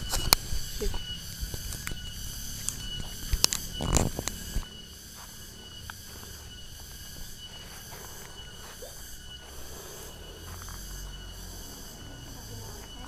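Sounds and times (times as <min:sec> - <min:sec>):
faint steady tone: 0:00.0 - 0:13.0
steady high-pitched hiss: 0:00.0 - 0:13.0.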